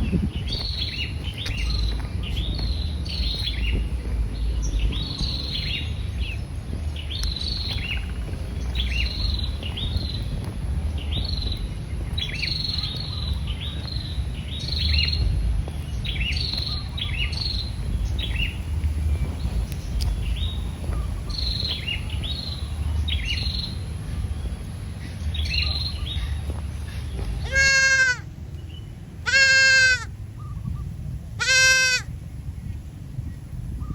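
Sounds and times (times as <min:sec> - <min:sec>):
low rumble: 0:00.0 - 0:29.3
small birds chirping: 0:00.0 - 0:33.9.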